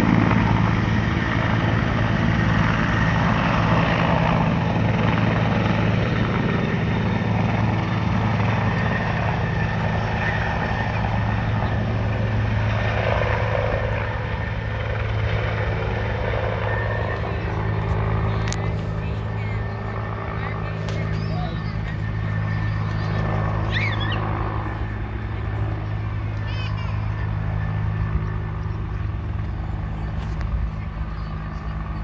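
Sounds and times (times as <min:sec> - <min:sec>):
helicopter rotor and turbine: 0:00.0 - 0:32.0.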